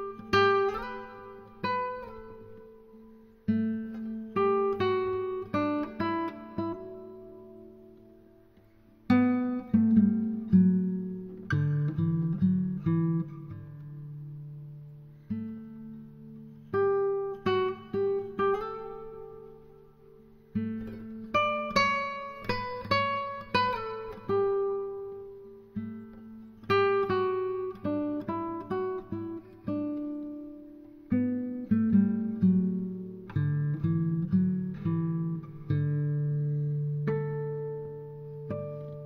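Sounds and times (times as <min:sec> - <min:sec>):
acoustic guitar music: 0:00.0 - 0:39.0.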